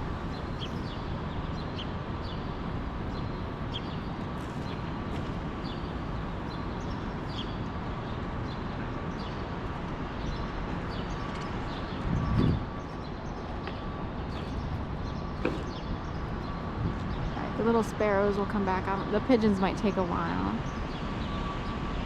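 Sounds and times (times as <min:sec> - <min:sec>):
sparrows chirping: 0:00.0 - 0:21.9
city traffic noise: 0:00.0 - 0:22.0.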